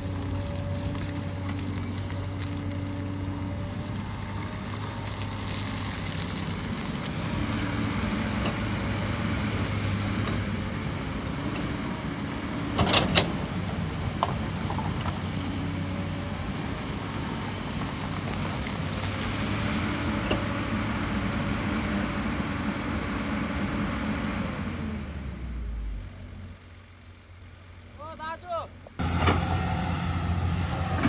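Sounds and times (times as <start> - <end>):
excavator diesel engine running: 0.0 - 26.0, 29.0 - 31.0.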